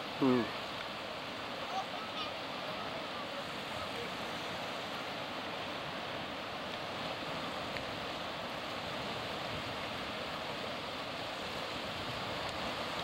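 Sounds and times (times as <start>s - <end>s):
small waves breaking on shore: 0.0s - 13.0s.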